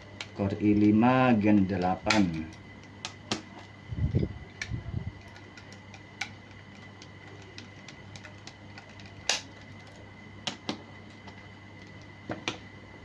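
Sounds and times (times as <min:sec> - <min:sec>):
small parts and tools clicking: 0:00.0 - 0:12.2.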